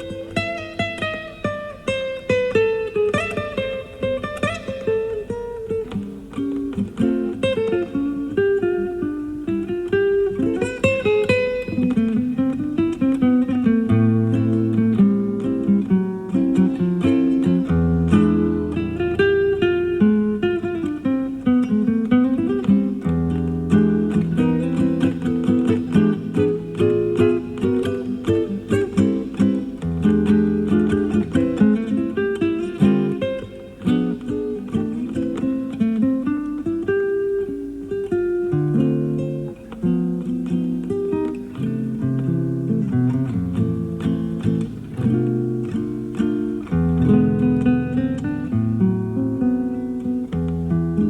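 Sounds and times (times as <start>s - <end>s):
classical guitar played fingerstyle: 0.0s - 51.0s.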